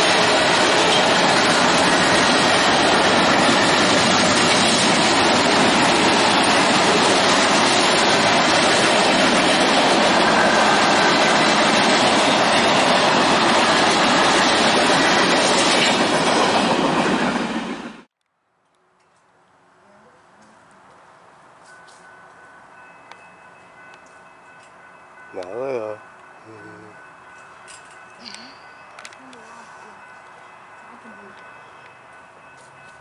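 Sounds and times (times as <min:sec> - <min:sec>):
steel wheels rolling on rail: 0:00.0 - 0:19.4, 0:20.3 - 0:33.0.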